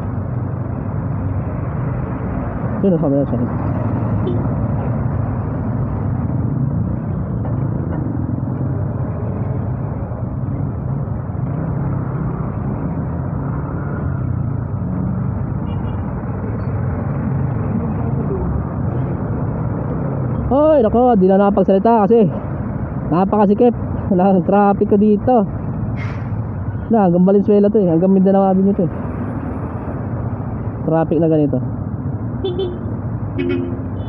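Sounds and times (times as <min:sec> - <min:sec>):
hum of surrounding vehicles: 0:00.0 - 0:34.0
road noise: 0:00.0 - 0:34.0.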